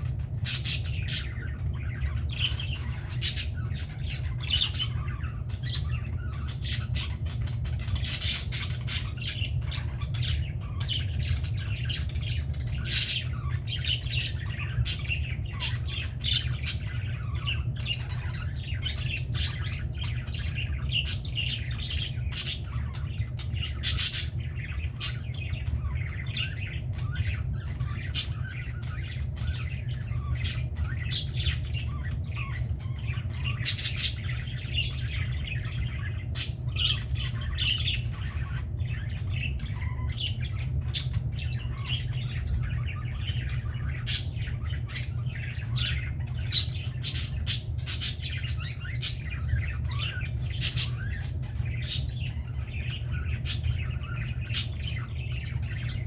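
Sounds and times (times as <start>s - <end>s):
budgerigars chattering: 0.0s - 56.0s
steady low hum: 0.0s - 56.0s.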